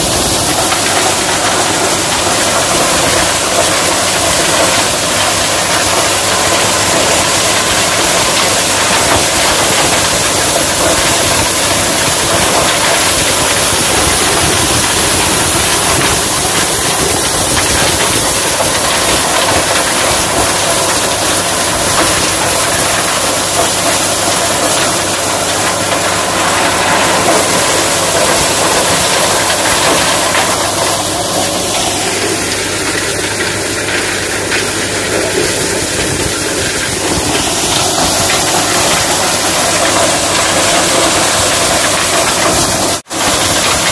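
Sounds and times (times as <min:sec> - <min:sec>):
corn thresher running: 0:00.0 - 0:43.9
tractor engine: 0:00.0 - 0:43.9.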